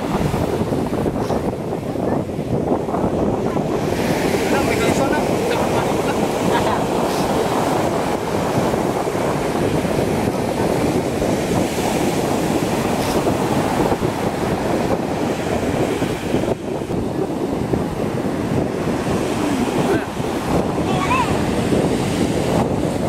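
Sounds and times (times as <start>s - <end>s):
ocean surf breaking on beach: 0.0s - 23.0s
wind buffeting microphone: 0.0s - 23.0s.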